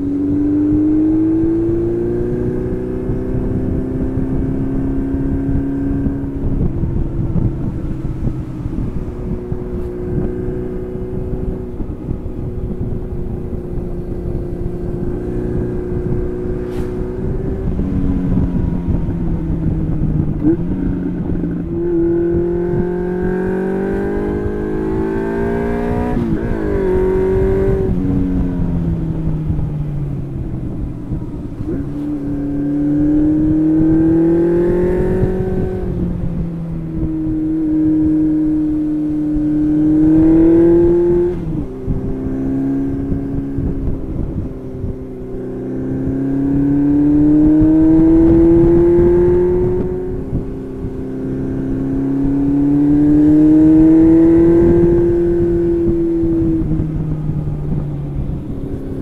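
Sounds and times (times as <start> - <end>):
motorcycle engine accelerating: 0.0 - 59.0
wind rumble on microphone: 0.0 - 59.0.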